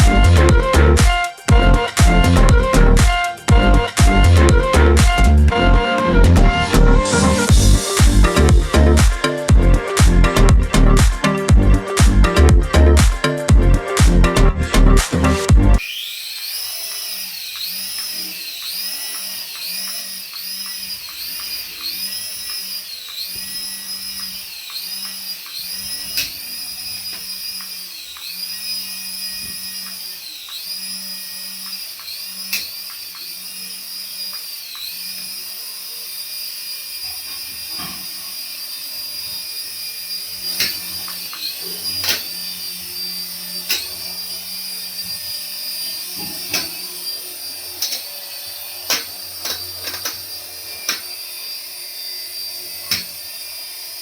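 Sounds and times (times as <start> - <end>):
toy electric motor whining: 0.0 - 54.0.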